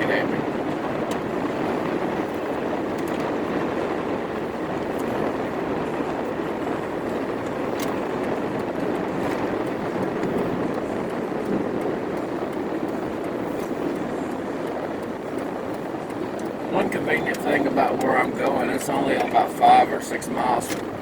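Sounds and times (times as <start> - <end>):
tyres on wet pavement: 0.0 - 21.0.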